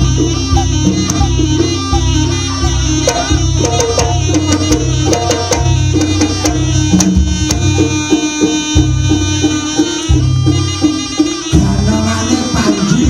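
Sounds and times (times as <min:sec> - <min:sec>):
hand drums beating: 0:00.0 - 0:13.0
sustained melody line: 0:00.0 - 0:13.0.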